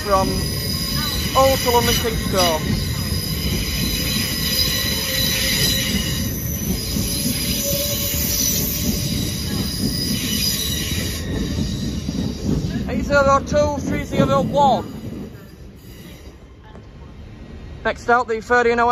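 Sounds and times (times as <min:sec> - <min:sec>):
train wheels squealing: 0:00.0 - 0:16.7
low train rumble: 0:00.0 - 0:18.9.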